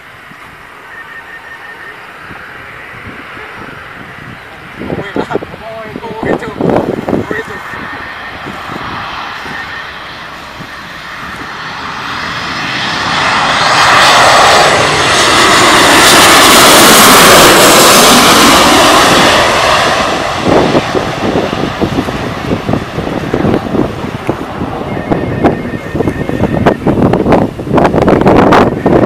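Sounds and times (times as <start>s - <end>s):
jet airliner passing overhead: 0.0s - 29.0s
wind gusts on microphone: 0.0s - 29.0s.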